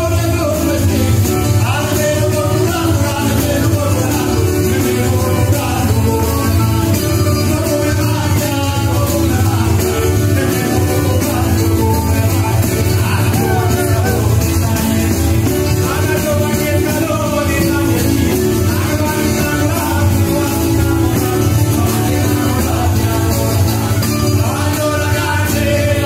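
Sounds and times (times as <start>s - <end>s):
person singing: 0.0s - 26.0s
plucked string instrument: 0.0s - 26.0s
strummed acoustic guitar: 0.0s - 26.0s.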